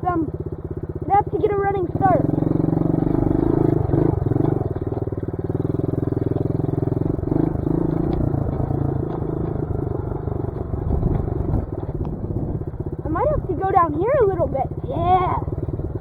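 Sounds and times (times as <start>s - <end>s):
dirt bike engine at low revs: 0.0s - 16.0s.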